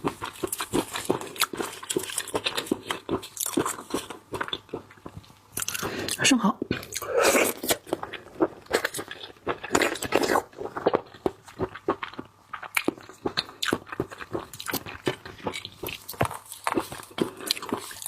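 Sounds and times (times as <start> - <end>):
wet chewing and mouth smacking: 0.0 - 18.0.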